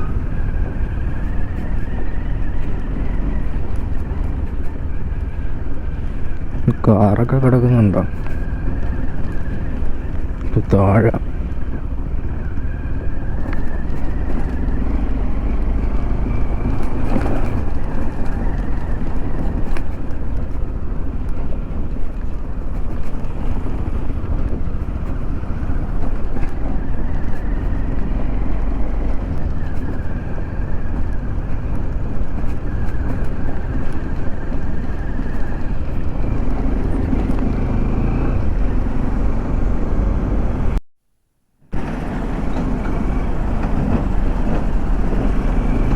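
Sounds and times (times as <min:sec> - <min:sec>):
motorcycle engine running: 0:00.0 - 0:06.8, 0:11.2 - 0:40.8, 0:41.8 - 0:45.9
wind rushing on microphone: 0:00.0 - 0:40.8, 0:41.7 - 0:45.9.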